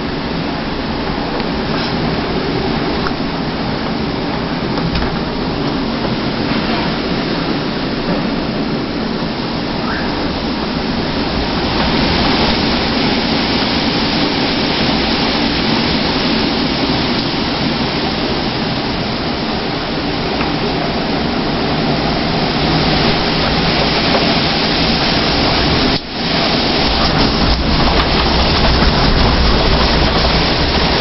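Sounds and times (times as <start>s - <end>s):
heavy rain: 0.0s - 31.0s
strong wind: 0.0s - 31.0s.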